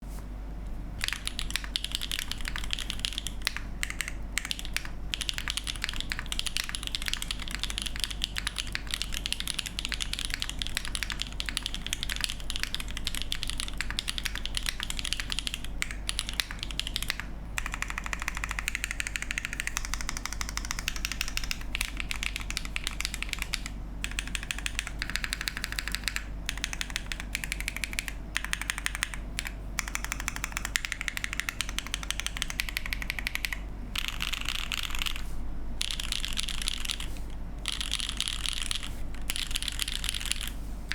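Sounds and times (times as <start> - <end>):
mechanical keyboard key clacks: 1.0 - 35.2.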